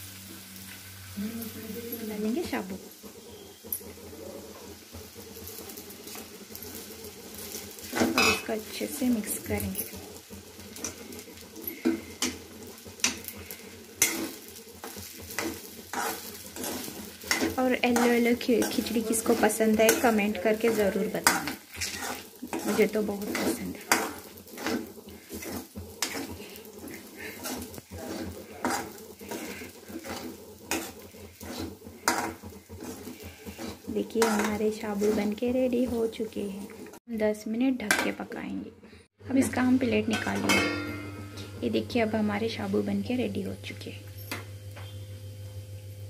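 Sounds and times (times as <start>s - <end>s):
oil sizzling: 0.0s - 46.0s
metal spoon scraping a pan: 1.4s - 37.0s, 39.5s - 42.9s.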